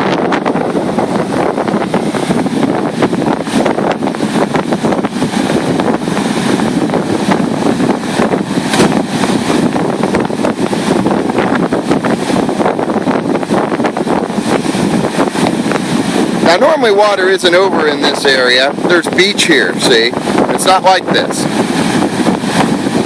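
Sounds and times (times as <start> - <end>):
strong wind rushing: 0.0 - 23.0
wind crackling on microphone: 0.0 - 23.0.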